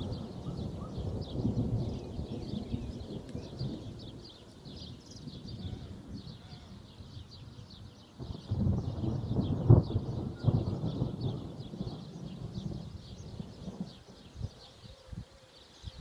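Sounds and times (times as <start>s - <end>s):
thunder rumbling: 0.0s - 14.6s
small birds chirping: 0.0s - 16.0s.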